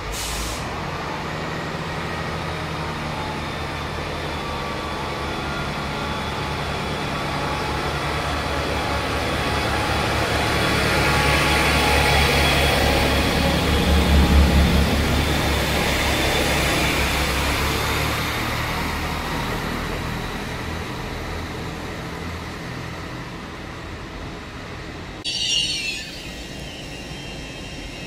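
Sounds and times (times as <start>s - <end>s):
train rumble with wheel noise: 0.0s - 28.0s.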